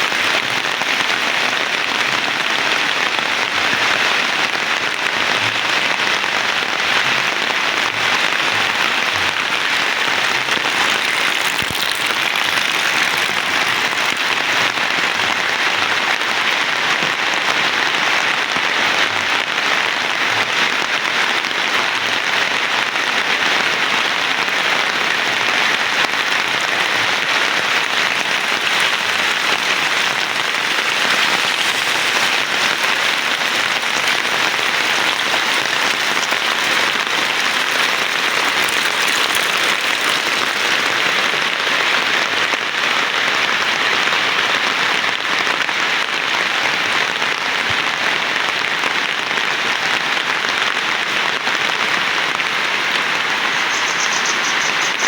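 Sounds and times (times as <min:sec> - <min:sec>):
heavy rain falling: 0:00.0 - 0:53.8.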